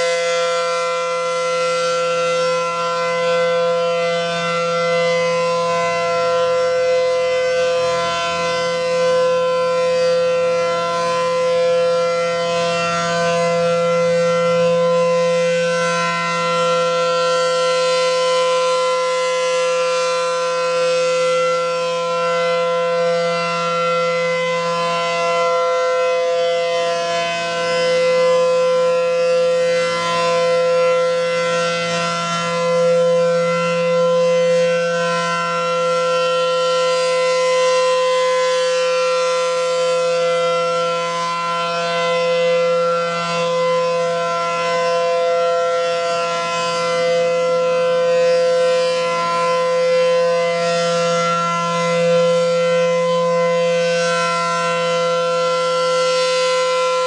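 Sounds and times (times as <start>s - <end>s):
electronic warning siren tone: 0.0s - 57.0s.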